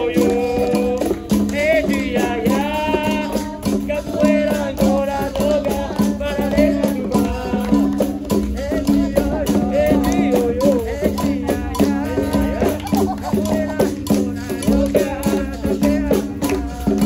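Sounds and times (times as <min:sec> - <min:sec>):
berimbaus with rattles: 0:00.0 - 0:17.0
hand percussion: 0:00.0 - 0:17.0
people singing: 0:00.0 - 0:17.0.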